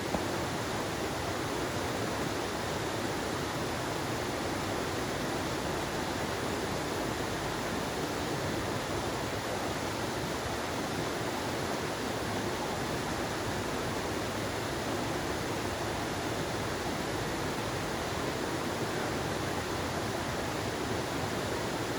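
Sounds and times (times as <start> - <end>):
stream flowing over rocks: 0.0 - 21.9.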